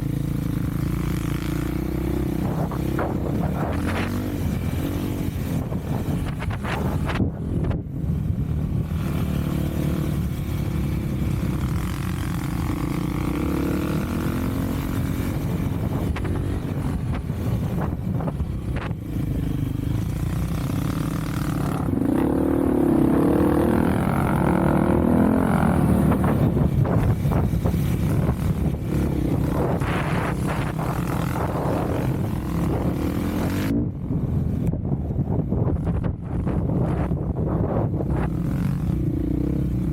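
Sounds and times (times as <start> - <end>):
off-road vehicle engine revving: 0.0 - 7.8, 8.9 - 33.9.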